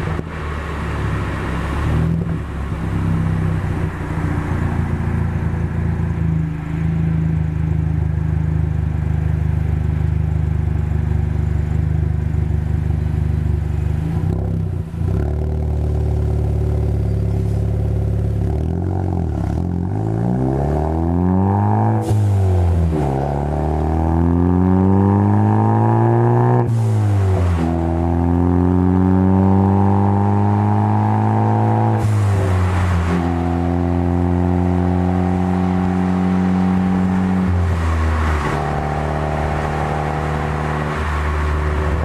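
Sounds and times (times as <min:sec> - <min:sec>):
car engine accelerating: 0:00.0 - 0:42.0.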